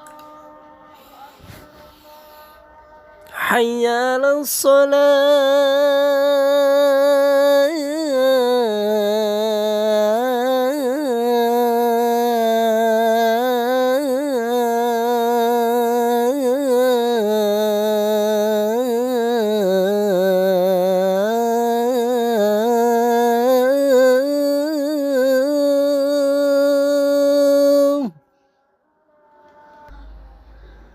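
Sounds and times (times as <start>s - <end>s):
person singing call to prayer: 0.0s - 28.4s, 29.1s - 30.9s.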